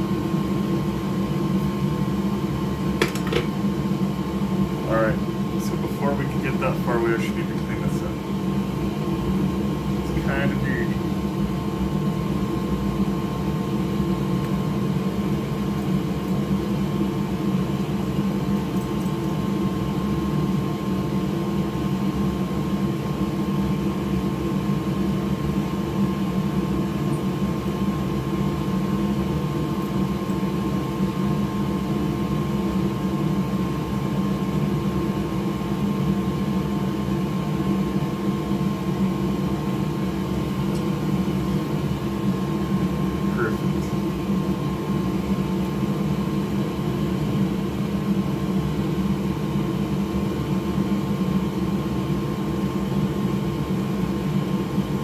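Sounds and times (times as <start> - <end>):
fan motor humming: 0.0 - 55.0.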